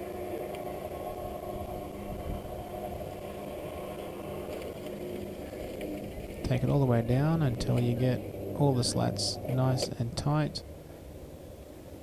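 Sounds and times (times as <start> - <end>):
roller shutter motor humming: 0.0 - 10.7.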